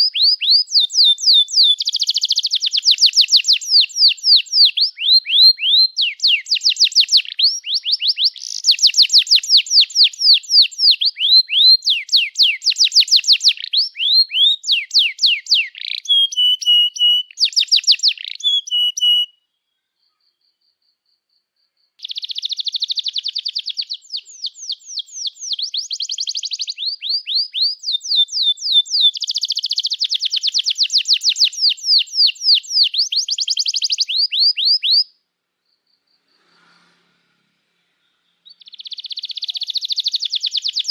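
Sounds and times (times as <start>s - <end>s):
canary singing trills: 0.0s - 20.6s, 22.0s - 36.3s, 38.2s - 40.9s.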